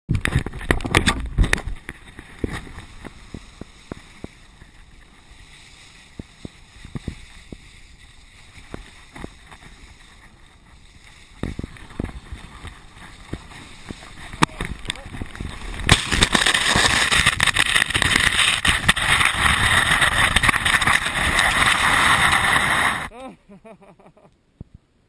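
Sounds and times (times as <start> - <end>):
wind on microphone: 0.1 - 23.1
skis sliding over snow: 0.1 - 23.3.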